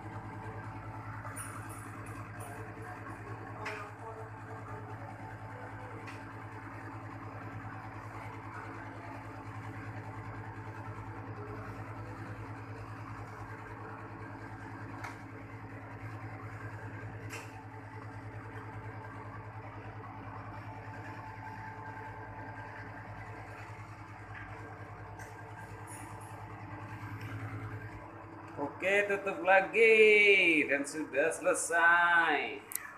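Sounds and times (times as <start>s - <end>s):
compressor humming with fan: 0.0s - 32.9s.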